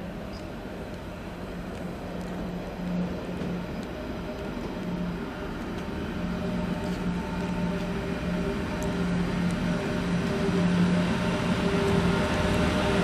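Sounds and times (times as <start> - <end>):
diesel train engines droning: 0.0 - 13.0.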